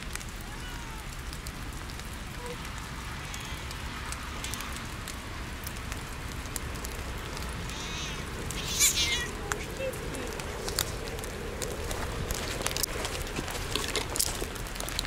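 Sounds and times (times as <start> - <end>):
rain falling on dead leaves: 0.0 - 15.0.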